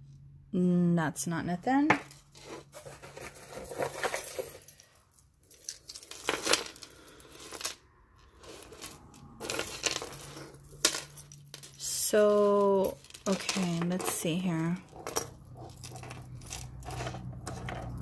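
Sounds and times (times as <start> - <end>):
jewelry clattering on wooden table: 1.9 - 18.0
metal jewelry clinking: 1.9 - 18.0.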